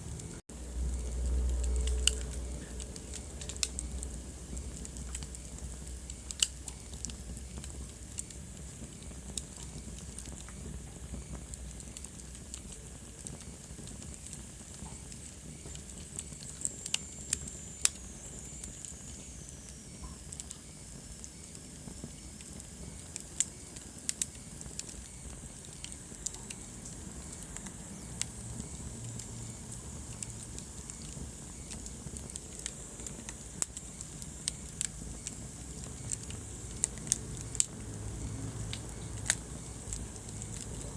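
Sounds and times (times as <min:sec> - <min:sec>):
low rumble and hiss of fire: 0:00.0 - 0:40.9
wood fire crackling and popping: 0:00.0 - 0:40.9.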